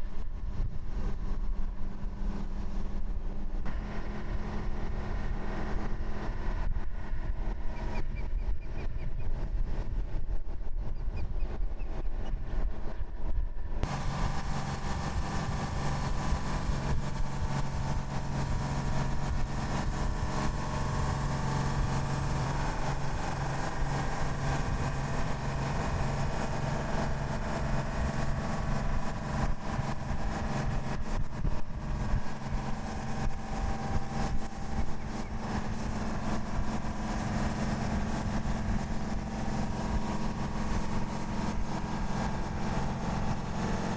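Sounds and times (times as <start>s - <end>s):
low rumble: 0.0s - 43.9s
vehicle engine drone: 0.0s - 43.9s.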